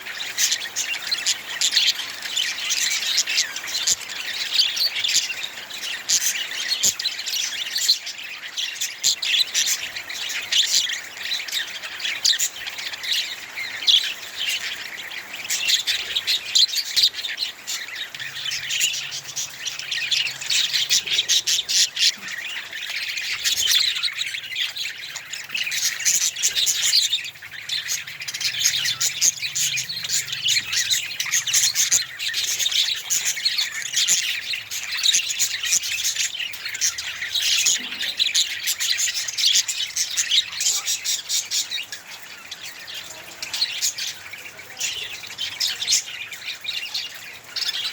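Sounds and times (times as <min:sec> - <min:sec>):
budgerigars chattering and chirping: 0:00.0 - 0:47.9.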